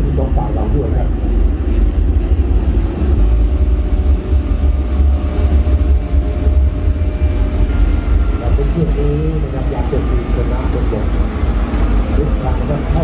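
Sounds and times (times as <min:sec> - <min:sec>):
heavy engines rumbling: 0:00.0 - 0:13.0.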